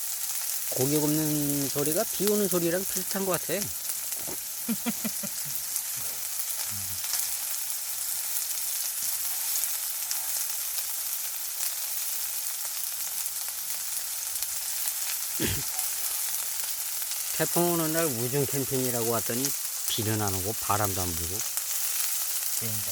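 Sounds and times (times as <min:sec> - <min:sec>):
pork belly sizzling on grill: 0:00.0 - 0:22.9.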